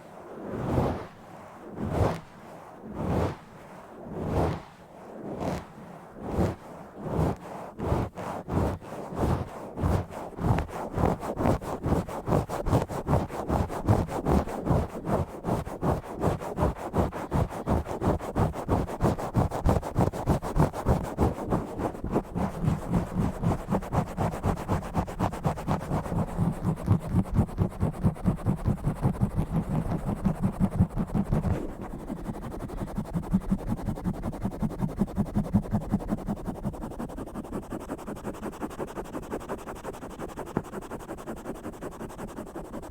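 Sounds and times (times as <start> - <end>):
scratching on a microphone: 0.0 - 42.9.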